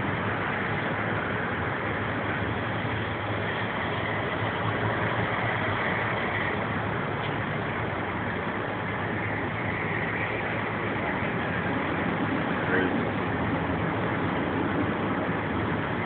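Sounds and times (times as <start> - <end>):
constant rushing noise: 0.0 - 16.0
large vehicle engine idling: 0.0 - 16.0.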